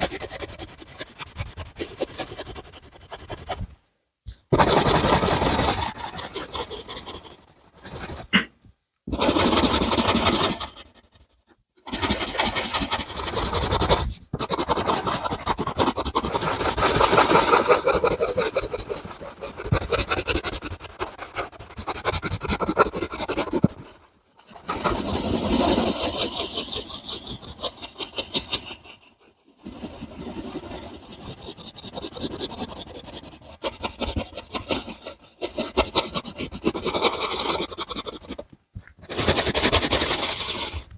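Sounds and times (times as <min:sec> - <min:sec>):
drawing tool scratching on paper: 0:00.0 - 0:03.8, 0:04.5 - 0:08.5, 0:09.1 - 0:40.9.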